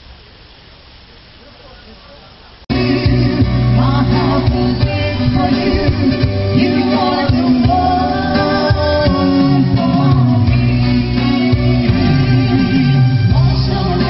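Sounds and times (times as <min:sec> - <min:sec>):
keyboard accompaniment: 0:02.7 - 0:14.0
steady bass line: 0:02.7 - 0:14.0
woman singing into microphone: 0:02.7 - 0:14.0.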